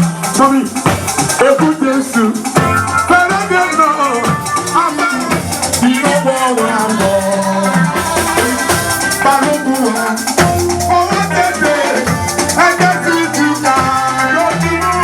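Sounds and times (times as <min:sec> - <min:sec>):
church band music: 0:00.0 - 0:15.0.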